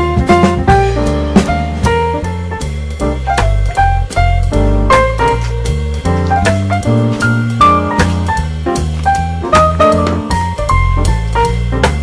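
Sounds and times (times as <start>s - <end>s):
bass line: 0.0s - 12.0s
drum hits: 0.0s - 12.0s
upbeat jazzy piano tune: 0.0s - 12.0s.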